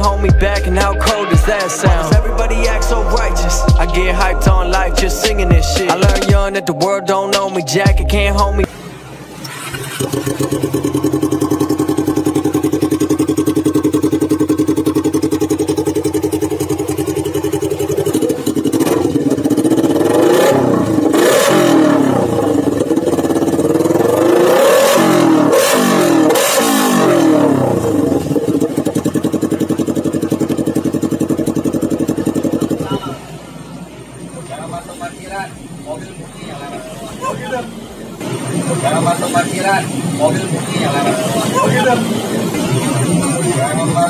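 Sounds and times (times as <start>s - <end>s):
motorcycle engine revving: 7.8s - 44.0s.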